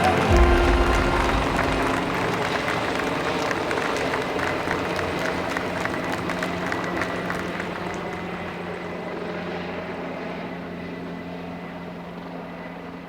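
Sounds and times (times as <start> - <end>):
helicopter flying past: 0.0 - 13.0.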